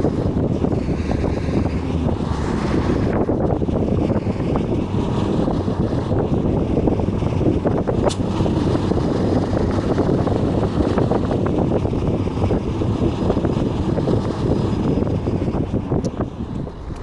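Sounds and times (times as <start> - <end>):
bus rumbling along road: 0.0 - 17.0.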